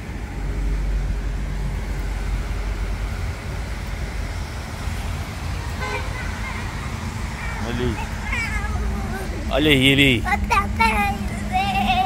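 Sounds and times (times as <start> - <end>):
low rumble of road vehicles: 0.0 - 12.0.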